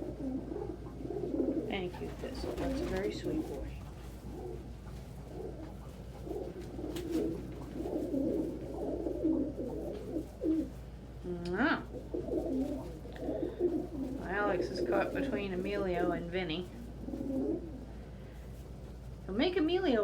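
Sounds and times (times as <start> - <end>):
pigeons cooing: 0.0 - 18.7.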